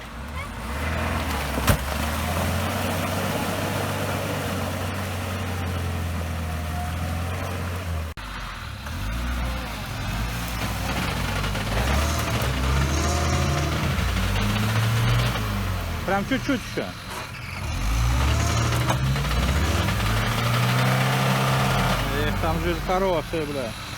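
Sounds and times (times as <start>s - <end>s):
engine revving: 0.0s - 23.9s
off-road vehicle engine running: 0.0s - 23.9s.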